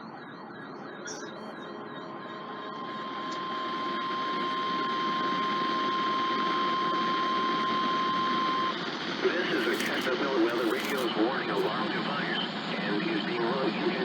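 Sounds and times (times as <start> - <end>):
steady high alarm tone: 0.0 - 11.9.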